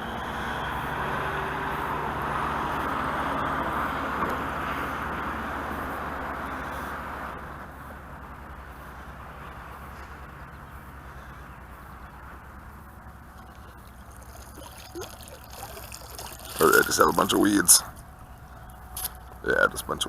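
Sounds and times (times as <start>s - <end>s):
low even hum: 0.0s - 20.0s
outdoor background rush: 0.0s - 20.0s.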